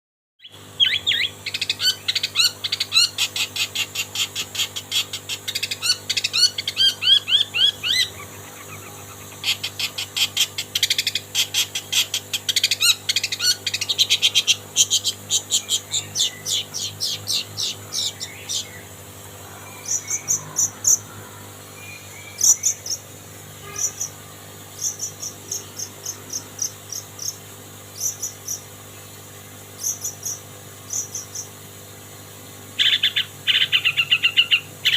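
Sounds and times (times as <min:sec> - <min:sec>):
shrike singing: 0:00.4 - 0:28.8.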